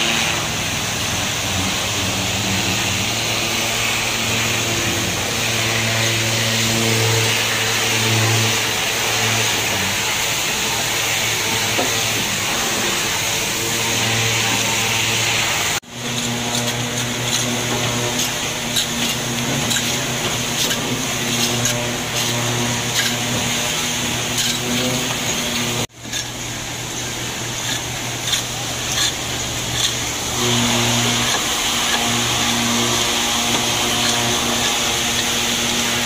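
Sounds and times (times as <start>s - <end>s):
steady machine drone: 0.0s - 36.0s
scrapers scraping metal: 1.4s - 26.4s, 27.0s - 36.0s.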